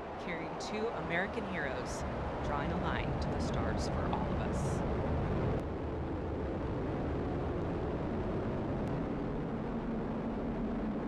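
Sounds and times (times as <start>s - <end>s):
rocket engine rumbling: 0.0s - 11.0s.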